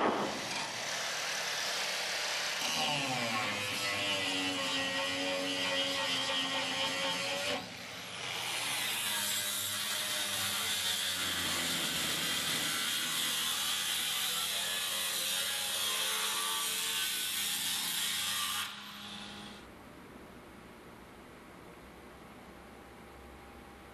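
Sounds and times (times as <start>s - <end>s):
power tool cutting sheet steel: 0.0s - 19.6s.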